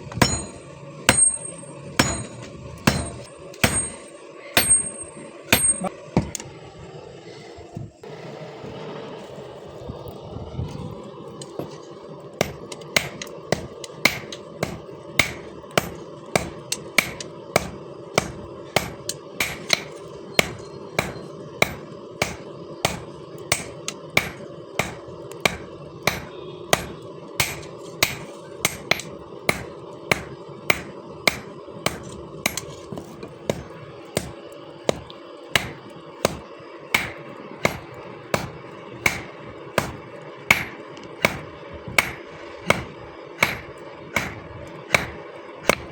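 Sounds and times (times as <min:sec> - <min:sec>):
hammer striking steel on anvil: 0:00.0 - 0:06.4, 0:12.4 - 0:45.9
steady hum: 0:00.0 - 0:45.9.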